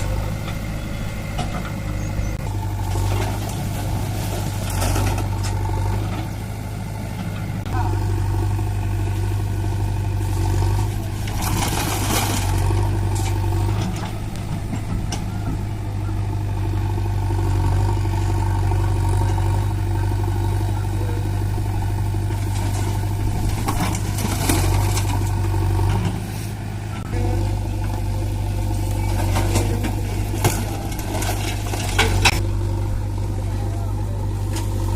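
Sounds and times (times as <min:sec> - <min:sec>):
heavy diesel engine rumbling: 0:00.0 - 0:34.9.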